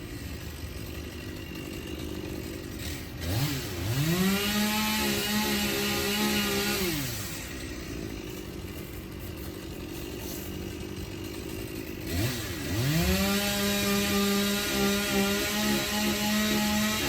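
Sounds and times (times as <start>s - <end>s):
chainsaw idling and revving: 0.0s - 17.0s.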